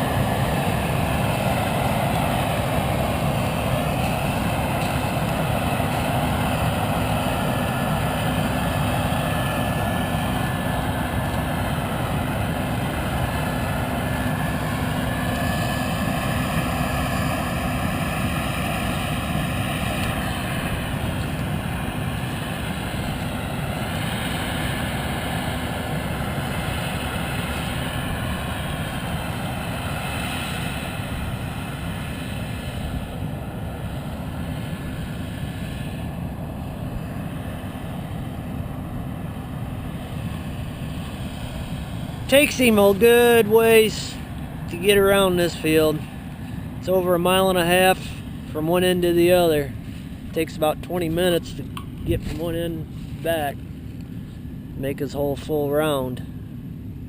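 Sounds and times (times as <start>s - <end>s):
combine harvester drone: 0.0s - 57.0s
machinery whine bending up and down: 0.0s - 57.0s.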